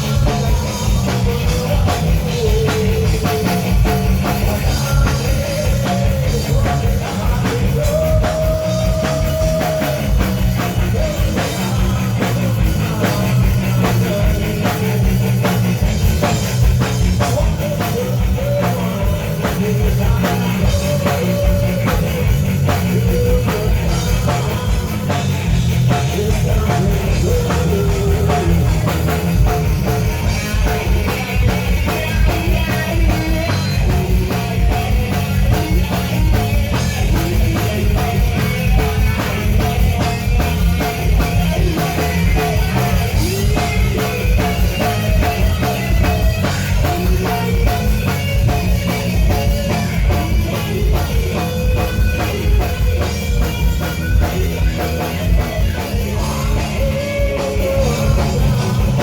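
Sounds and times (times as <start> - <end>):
man singing lead vocal: 0.0 - 52.8, 54.2 - 59.0
drum kit: 0.0 - 59.0
electric guitar: 0.0 - 59.0.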